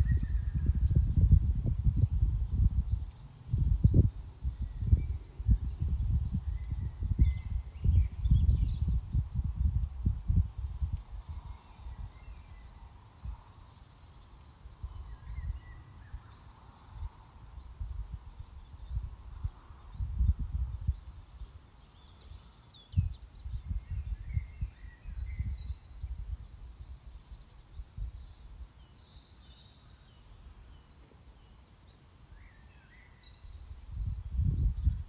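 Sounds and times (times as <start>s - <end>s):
wind buffeting microphone: 0.0s - 13.6s, 14.8s - 21.6s, 22.3s - 28.6s, 33.4s - 35.0s
small birds chirping: 0.0s - 35.0s.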